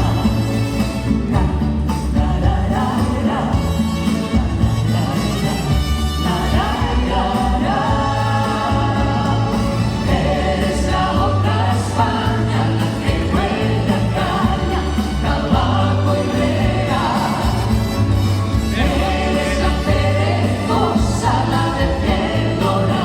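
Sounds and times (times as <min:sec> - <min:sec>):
band accompaniment: 0:00.0 - 0:23.0
steady bass line: 0:00.0 - 0:23.0
vocal group singing in harmony: 0:00.0 - 0:23.0.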